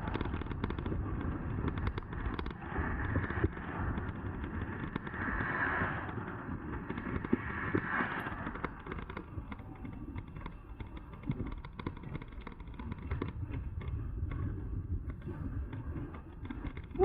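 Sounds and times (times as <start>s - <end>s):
bike clicks and rattles: 0.0s - 17.0s
e-bike rumble: 0.0s - 17.0s
wind buffeting microphone: 0.0s - 17.0s.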